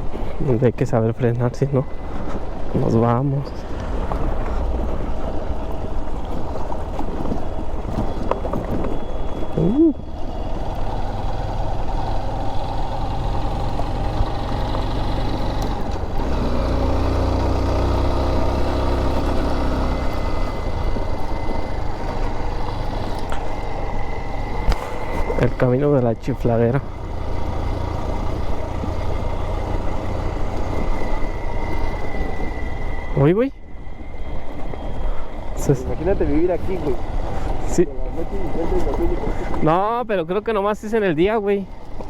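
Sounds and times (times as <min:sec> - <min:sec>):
dirt bike engine running: 0:03.9 - 0:42.0.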